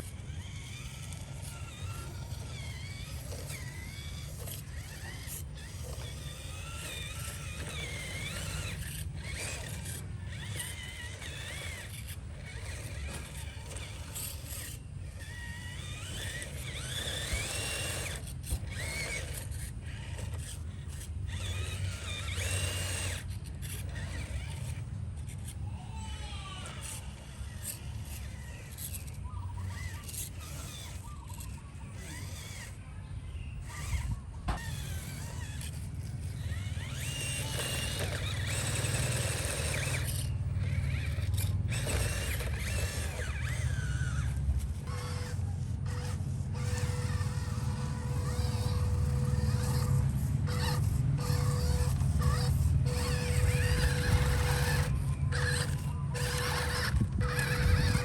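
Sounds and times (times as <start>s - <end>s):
electric motor and gears whining: 0.0s - 58.0s.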